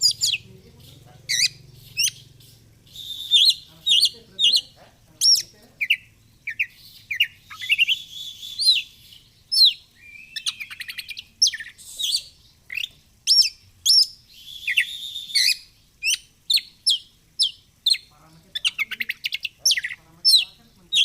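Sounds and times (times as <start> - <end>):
bird singing varied song: 0.0 - 21.0.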